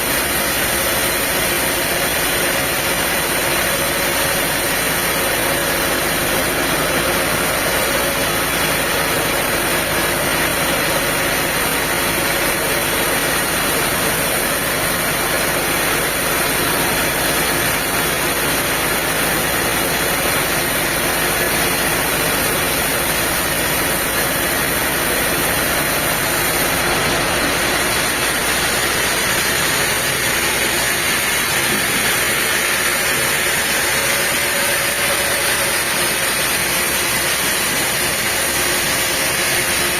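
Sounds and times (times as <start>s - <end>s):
machinery engine running: 0.0s - 39.9s.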